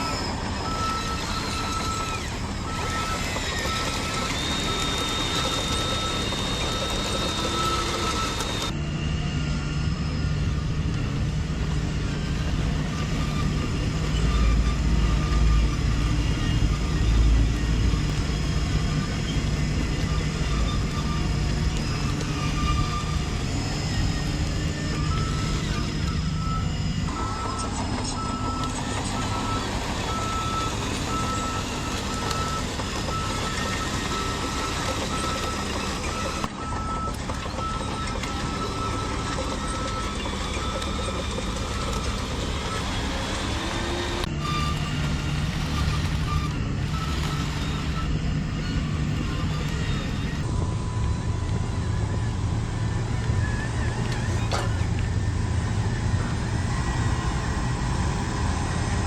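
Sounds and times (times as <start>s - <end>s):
reversing beeper: 0.0s - 59.0s
toy truck engine sound: 0.0s - 59.0s.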